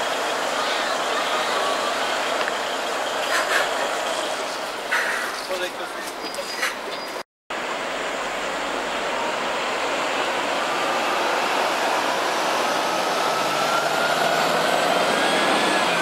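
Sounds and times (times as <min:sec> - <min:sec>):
bus engine: 0:00.0 - 0:16.0.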